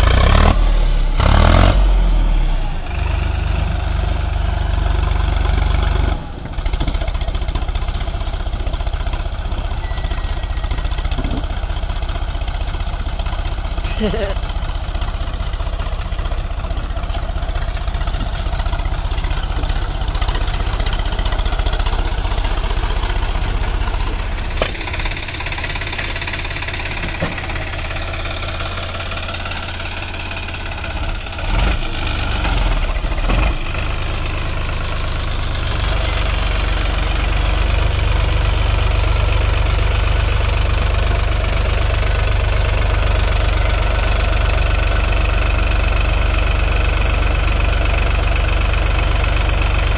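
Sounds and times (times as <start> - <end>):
tractor diesel engine straining: 0.0 - 49.9.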